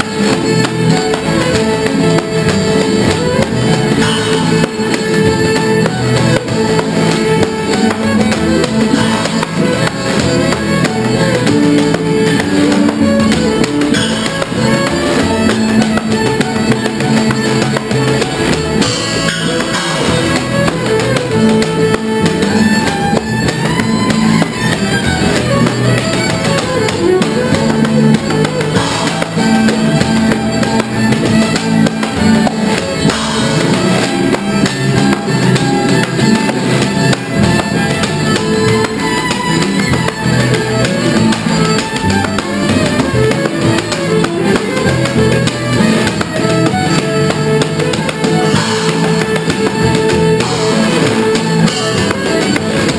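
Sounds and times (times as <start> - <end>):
drum kit with cymbals: 0.0 - 52.9
string band playing: 0.0 - 52.9.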